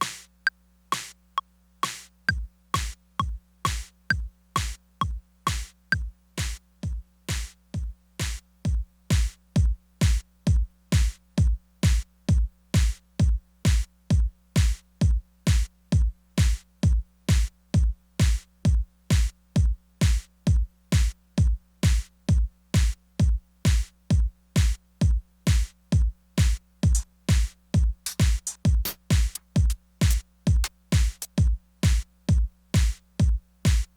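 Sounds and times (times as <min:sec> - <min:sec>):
kick drum beat: 0:01.8 - 0:33.9.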